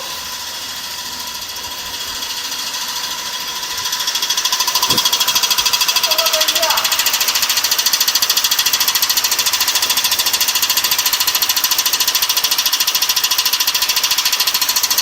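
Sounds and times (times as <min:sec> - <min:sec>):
rapid metallic engine knocking: 0:00.3 - 0:15.0.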